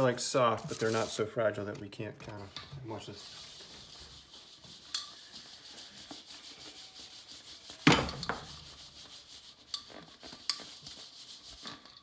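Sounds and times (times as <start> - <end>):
doughnuts rubbing in metal bowl: 0.0 - 12.0.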